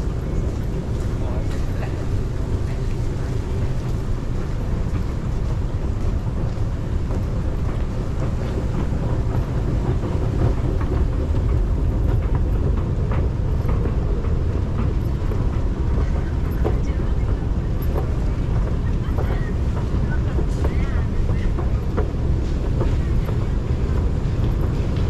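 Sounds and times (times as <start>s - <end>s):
train station rumble: 0.0s - 25.0s.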